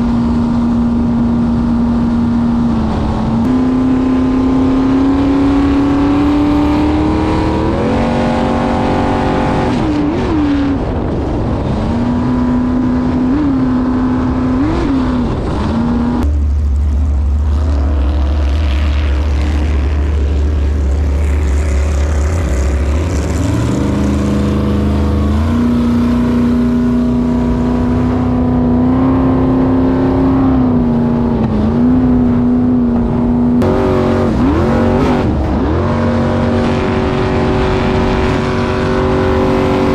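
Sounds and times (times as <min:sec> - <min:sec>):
boat engine revving: 0:00.0 - 0:39.9.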